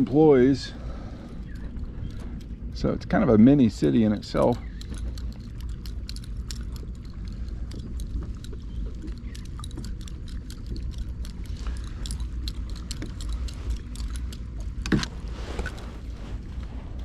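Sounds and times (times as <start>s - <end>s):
kayak gear clicking and rattling: 1.0s - 2.8s, 3.6s - 17.0s.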